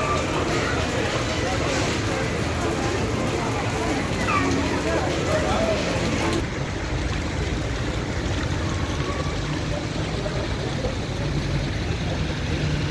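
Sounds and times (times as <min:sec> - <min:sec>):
low traffic rumble: 0:00.0 - 0:12.9
rainwater rushing: 0:00.0 - 0:12.9.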